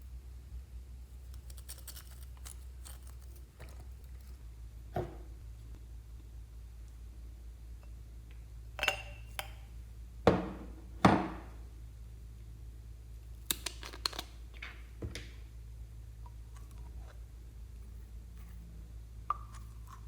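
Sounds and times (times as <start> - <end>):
steady low hum: 0.0 - 13.5, 14.3 - 20.0.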